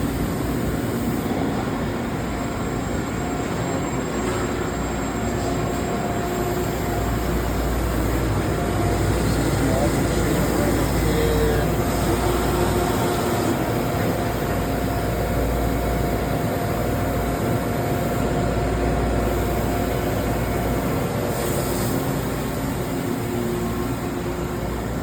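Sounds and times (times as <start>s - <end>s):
lathe machine hum: 0.1s - 25.0s.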